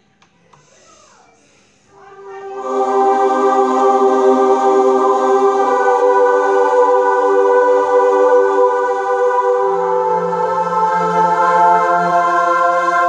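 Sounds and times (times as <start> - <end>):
keytar held chord: 2.0 - 13.0.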